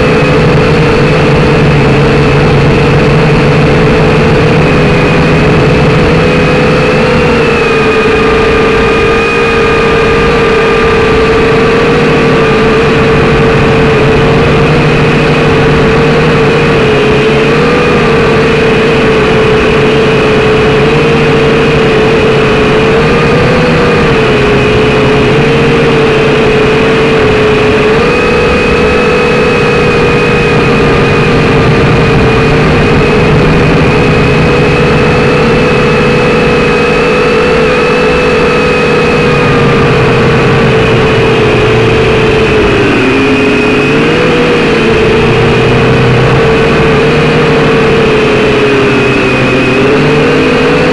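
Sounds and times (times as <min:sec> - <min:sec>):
quadcopter propellers whining: 0:00.0 - 0:50.9.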